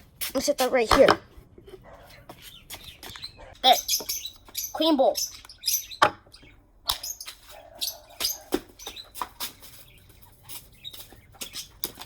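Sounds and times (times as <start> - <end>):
pet birds chirping: 1.5 - 12.0.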